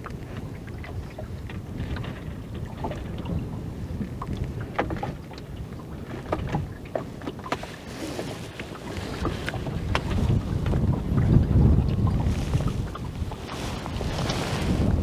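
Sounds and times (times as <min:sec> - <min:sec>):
waves slapping boat hull: 0:00.0 - 0:15.0
wind rumbling on microphone: 0:00.0 - 0:15.0.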